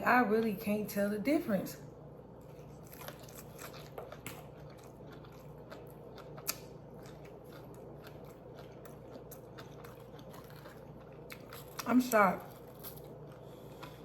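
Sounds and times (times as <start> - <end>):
person chewing crunchy food: 2.3 - 14.0.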